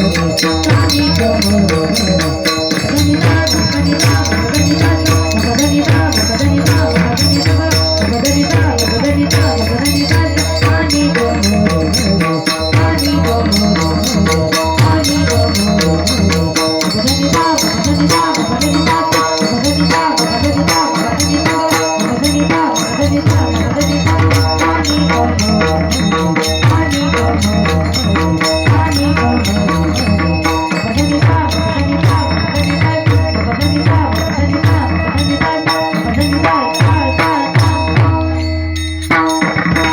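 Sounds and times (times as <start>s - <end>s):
cymbal-like jingles: 0.0s - 39.9s
fast hand drum playing: 0.0s - 39.9s.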